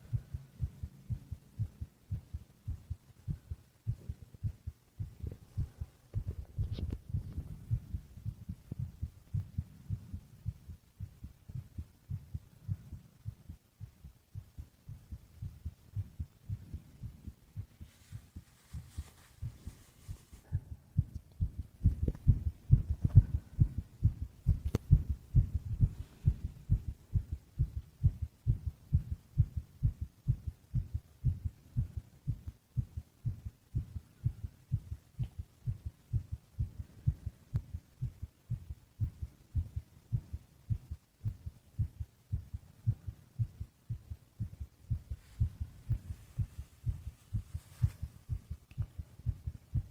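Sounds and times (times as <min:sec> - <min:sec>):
faint hiss: 0:00.0 - 0:49.9
human heartbeat: 0:00.0 - 0:49.9.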